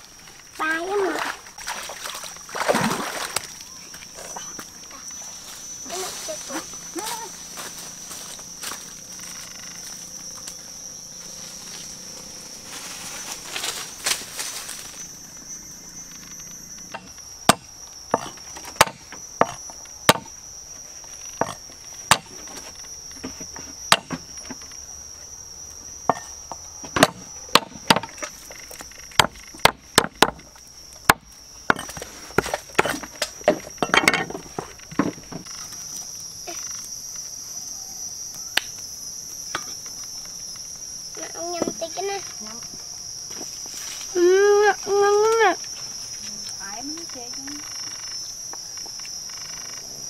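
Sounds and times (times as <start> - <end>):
high-pitched insect drone: 0.0 - 50.0.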